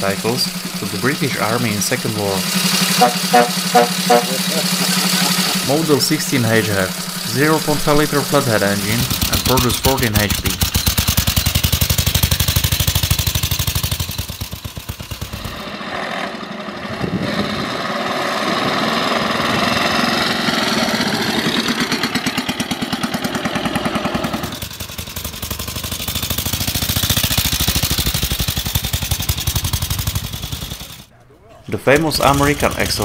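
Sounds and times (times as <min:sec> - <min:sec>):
motorcycle engine running: 0:00.0 - 0:31.2, 0:31.8 - 0:33.0.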